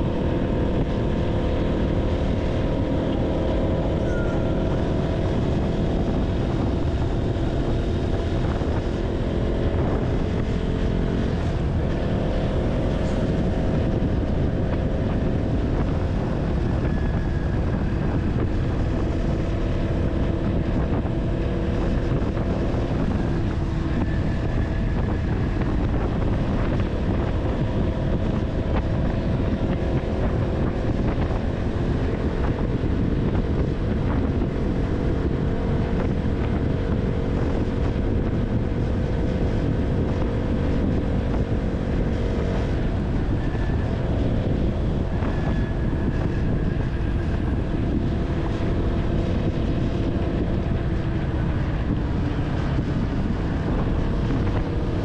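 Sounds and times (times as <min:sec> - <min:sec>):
motorcycle engine running: 0:00.0 - 0:55.0
road rumble: 0:00.0 - 0:55.0
wind noise on microphone: 0:00.0 - 0:55.0.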